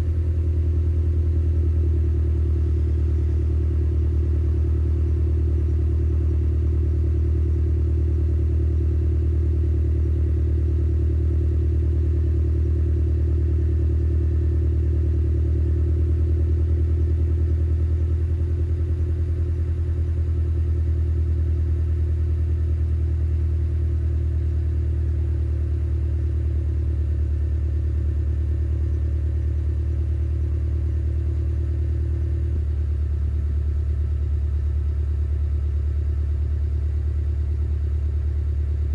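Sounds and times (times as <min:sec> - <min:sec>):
car exhaust idling burble: 0:00.0 - 0:38.9.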